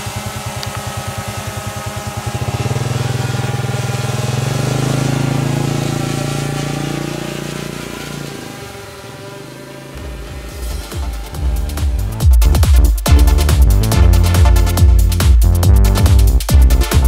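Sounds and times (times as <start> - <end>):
motor running with rapid pulsing: 0.0 - 17.0.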